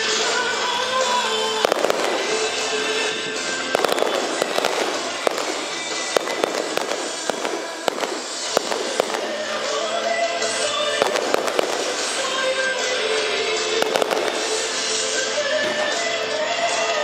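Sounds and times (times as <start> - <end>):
fireworks popping and crackling: 0.0 - 17.0
music playing: 0.0 - 17.0.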